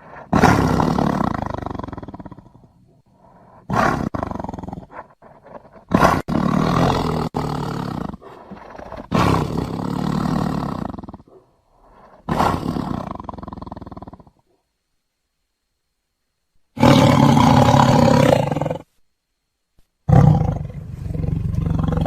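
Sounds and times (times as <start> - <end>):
tiger roaring: 0.0 - 14.4, 16.8 - 18.9, 20.1 - 22.0.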